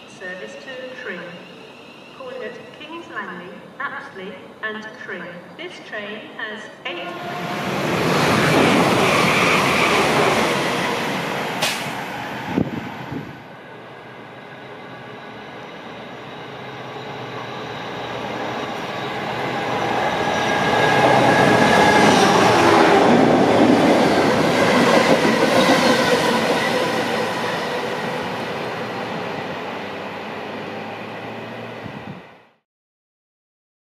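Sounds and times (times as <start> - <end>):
locomotive whine: 0.0 - 5.6, 6.2 - 32.6
electric train passing: 0.0 - 32.6
freight train passing: 0.0 - 32.6.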